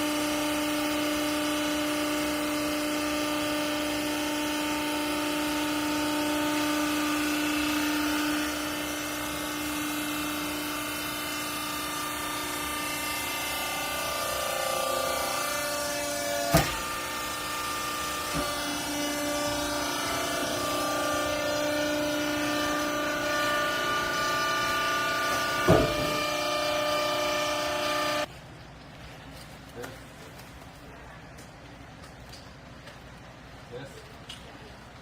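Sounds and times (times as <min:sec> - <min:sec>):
baler machine hum: 0:00.0 - 0:28.3.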